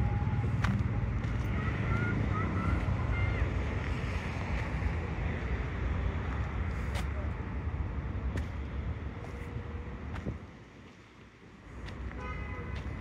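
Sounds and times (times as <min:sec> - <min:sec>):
distant city traffic: 0:00.0 - 0:13.0.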